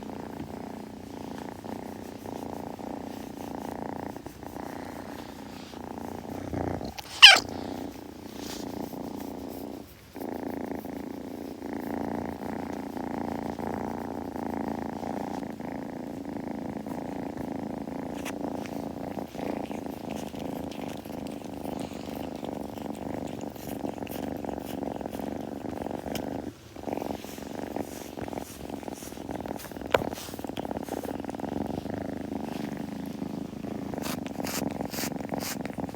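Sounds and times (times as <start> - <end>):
kitten purring: 0.0 - 35.9.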